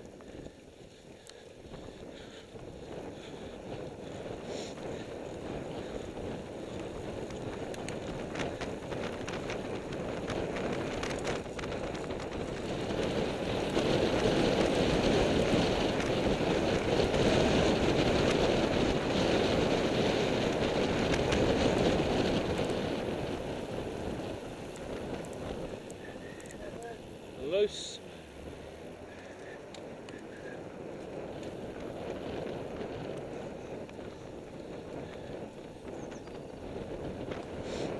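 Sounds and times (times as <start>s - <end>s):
wind on microphone: 0.0s - 27.7s, 28.4s - 37.9s
tyre noise on tarmac: 0.0s - 37.9s.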